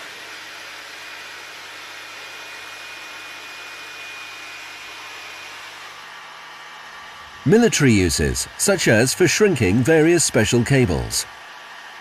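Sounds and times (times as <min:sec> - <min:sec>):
hot air tool blowing: 0:00.0 - 0:12.0.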